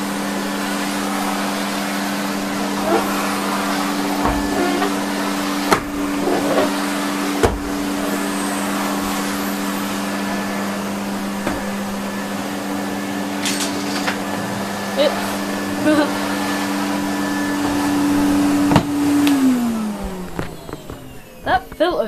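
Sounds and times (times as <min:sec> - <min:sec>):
vacuum cleaner motor hum: 0:00.0 - 0:22.0.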